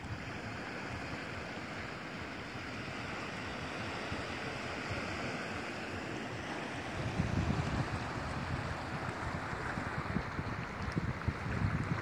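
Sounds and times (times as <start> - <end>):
seawater washing over rocks: 0.0 - 12.0.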